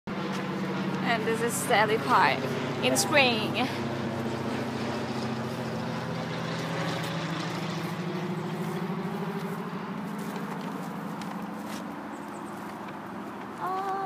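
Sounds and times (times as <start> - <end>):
low engine drone: 0.1 - 14.0.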